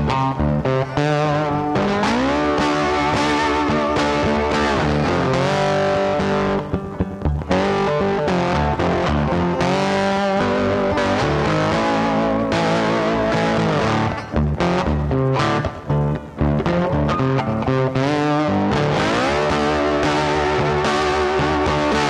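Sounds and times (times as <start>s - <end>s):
instrumental guitar music: 0.0s - 22.0s.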